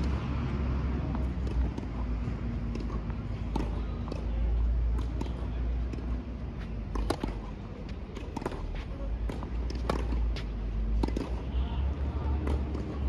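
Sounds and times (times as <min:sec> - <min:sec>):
tennis ball bouncing: 0:01.0 - 0:11.4, 0:12.4 - 0:13.0.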